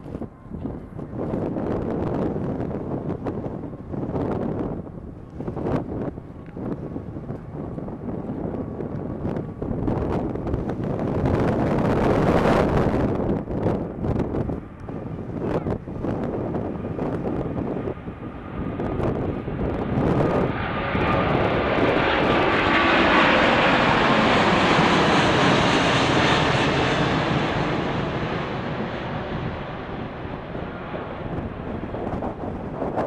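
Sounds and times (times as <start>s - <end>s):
jet airliner roar: 0.0s - 33.0s
wind buffeting microphone: 0.0s - 33.0s.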